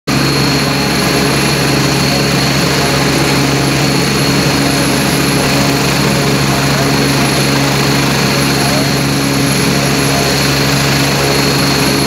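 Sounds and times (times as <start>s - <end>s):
helicopter rotor: 0.1s - 12.0s
thin high whine: 0.1s - 12.0s.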